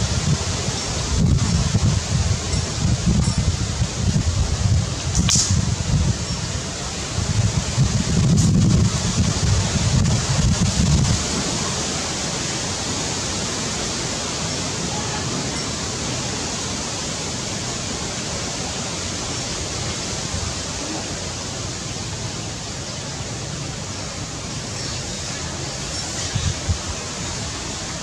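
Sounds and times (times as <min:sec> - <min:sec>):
steady rushing hiss: 0:00.0 - 0:28.0.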